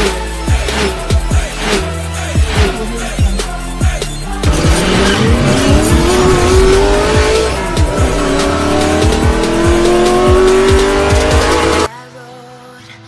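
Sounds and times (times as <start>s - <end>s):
racing car engine revving: 0.0s - 3.4s, 4.2s - 11.9s
intro music with drum beat: 0.0s - 11.9s.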